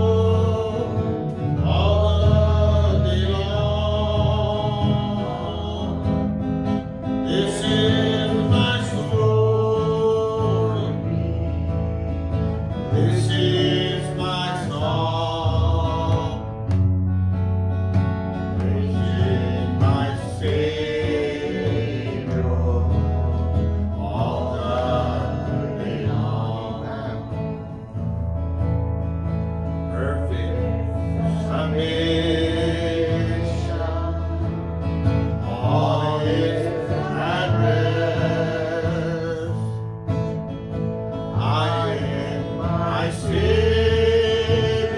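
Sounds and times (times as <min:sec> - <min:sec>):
people singing: 0:00.0 - 0:16.9, 0:18.0 - 0:28.3, 0:29.7 - 0:44.9
bass line: 0:00.0 - 0:44.9
guitar: 0:00.0 - 0:44.9.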